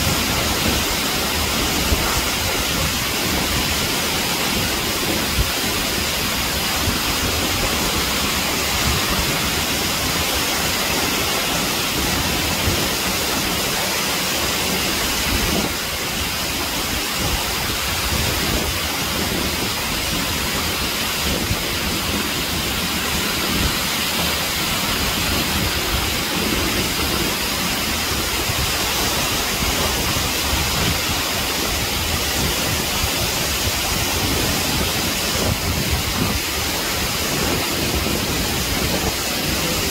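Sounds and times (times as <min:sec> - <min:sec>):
waterfall rushing roar: 0:00.0 - 0:39.9.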